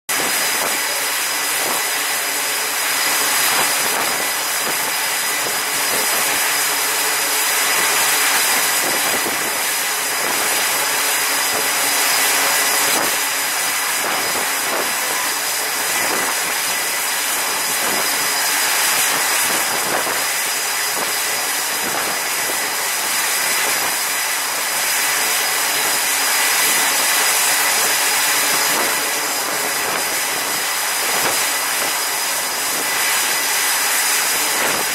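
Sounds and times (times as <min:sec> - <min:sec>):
high-pitched whine: 0:00.1 - 0:34.9.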